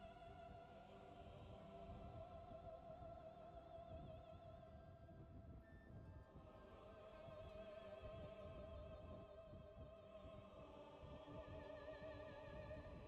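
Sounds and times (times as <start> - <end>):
soft music with vibrato: 0.0 - 13.0.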